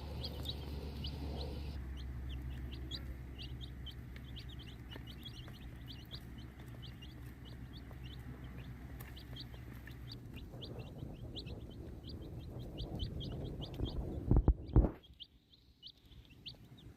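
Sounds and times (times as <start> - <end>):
chicks peeping: 0.0 - 16.9
low steady hum: 0.0 - 16.9.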